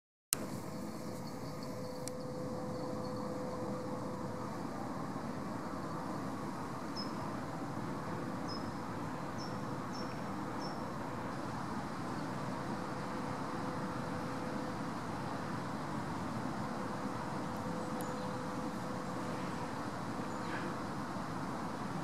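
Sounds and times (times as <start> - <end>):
faint steady hum: 0.3 - 22.0
distant road traffic rumble: 0.4 - 22.0.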